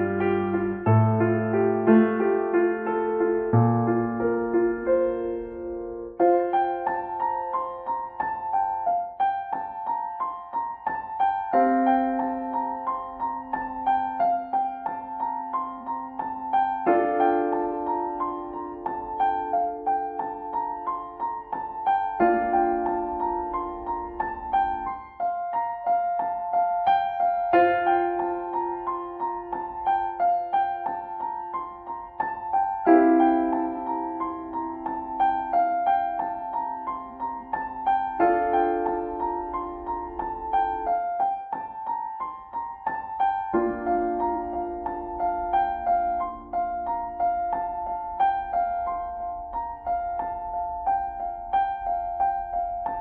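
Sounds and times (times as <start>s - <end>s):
piano music: 0.0s - 53.0s.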